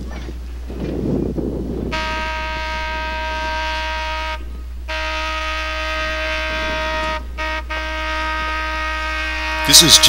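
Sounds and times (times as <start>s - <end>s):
locomotive air horn blasts: 1.8s - 10.0s.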